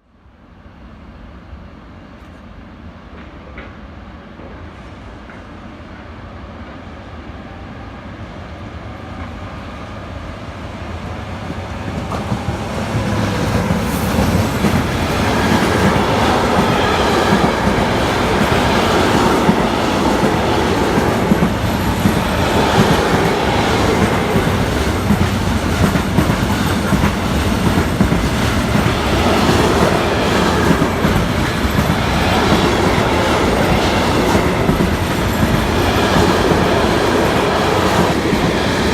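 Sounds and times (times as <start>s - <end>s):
train wheels on track: 0.7s - 38.9s.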